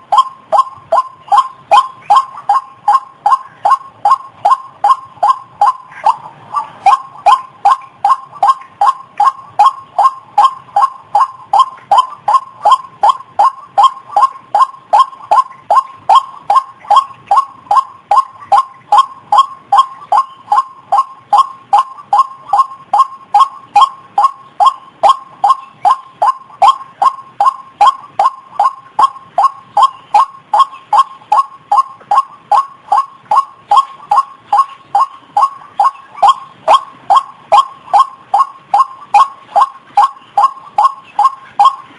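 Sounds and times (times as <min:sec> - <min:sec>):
waterhen calls: 0:00.0 - 0:41.9.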